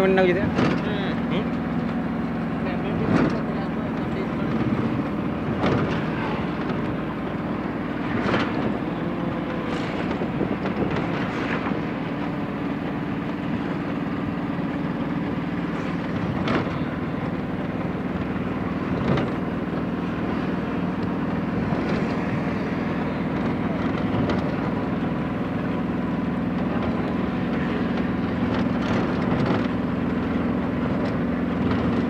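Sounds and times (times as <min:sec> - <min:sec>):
road noise: 0:00.0 - 0:32.0
vehicle engine hum: 0:00.0 - 0:32.0.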